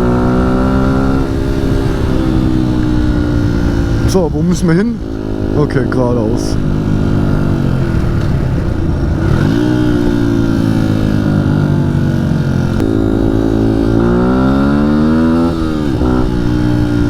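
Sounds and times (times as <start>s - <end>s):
dirt bike engine accelerating: 0.0s - 17.0s.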